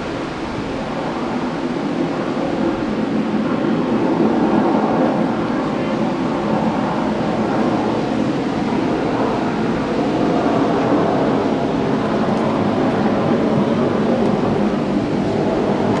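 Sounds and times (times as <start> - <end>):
jet aircraft passing over: 0.0 - 16.0
surf washing: 0.0 - 16.0
wind: 0.0 - 16.0.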